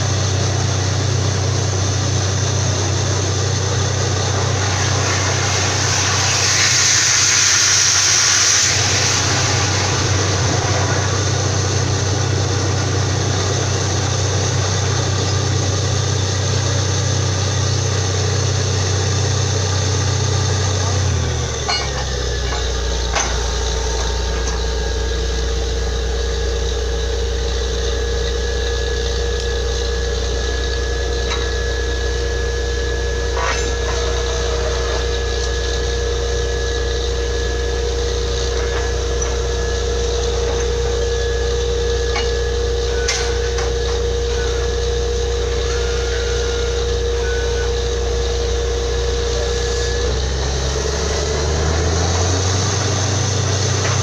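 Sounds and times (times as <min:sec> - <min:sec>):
constant whine: 0:00.0 - 0:54.0
drilling rig engine rumbling: 0:00.0 - 0:54.0.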